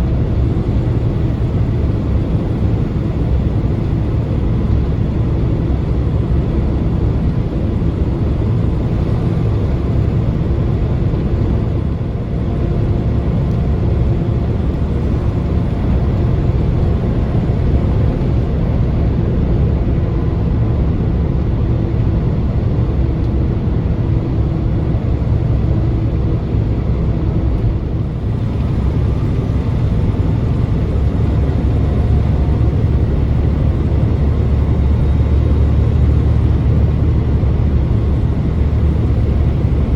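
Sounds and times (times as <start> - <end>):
engine and road noise in cab: 0.0 - 39.9.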